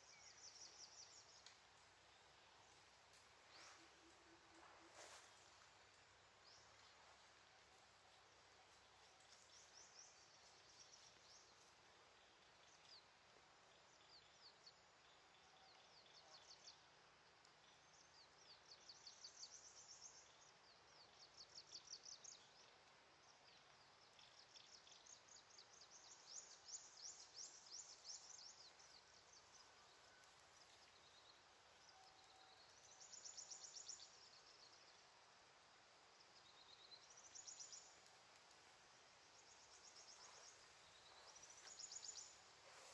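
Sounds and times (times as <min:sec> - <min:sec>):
low outdoor hiss: 0:00.0 - 0:42.9
small bird chirping trills: 0:00.0 - 0:42.9.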